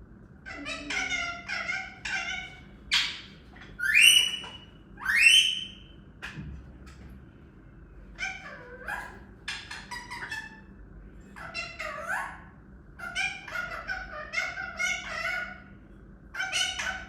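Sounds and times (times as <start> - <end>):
parrot chattering and squawking: 0.4 - 6.4, 8.2 - 17.0.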